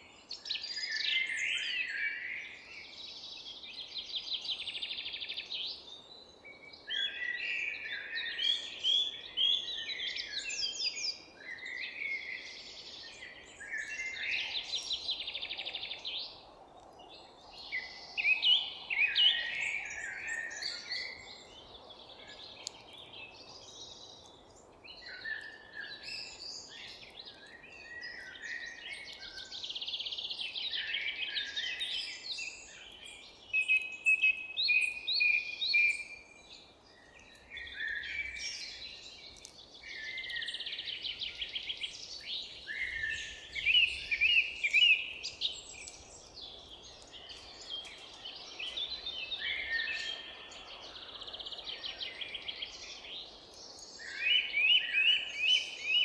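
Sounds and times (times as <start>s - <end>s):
faint background noise: 0.0s - 56.0s
songbirds singing: 0.0s - 56.0s.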